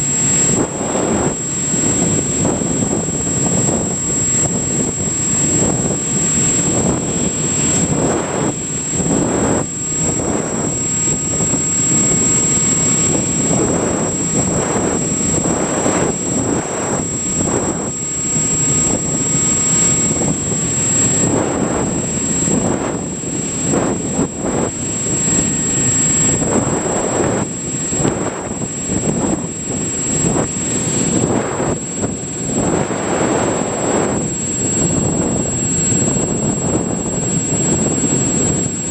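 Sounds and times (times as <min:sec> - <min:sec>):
electric motor and propeller: 0:00.0 - 0:38.9
wind buffeting microphone: 0:00.0 - 0:38.9.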